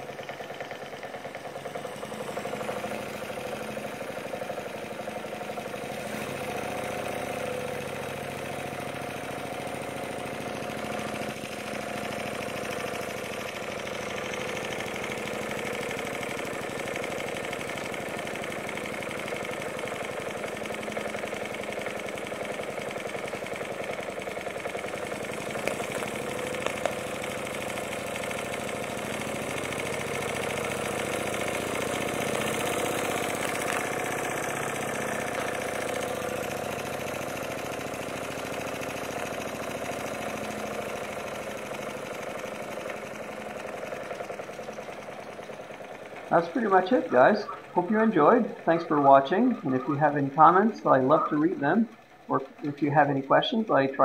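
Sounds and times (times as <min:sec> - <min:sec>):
model steam engine beating rapidly: 0:00.0 - 0:54.0.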